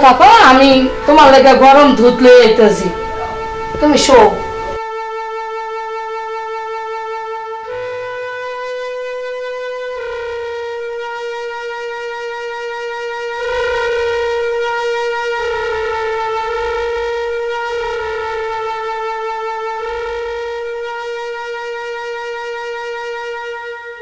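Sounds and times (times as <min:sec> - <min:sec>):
reedy wind instrument melody: 0:00.0 - 0:24.0.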